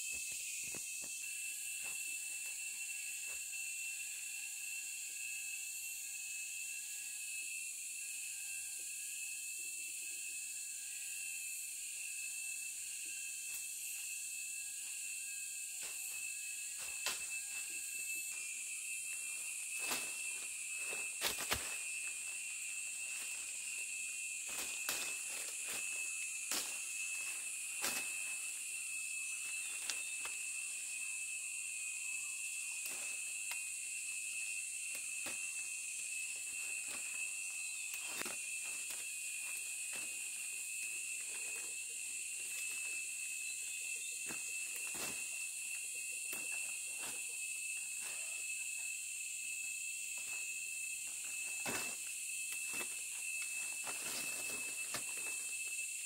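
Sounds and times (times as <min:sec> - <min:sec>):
shrill insect chorus: 0:00.0 - 0:56.0.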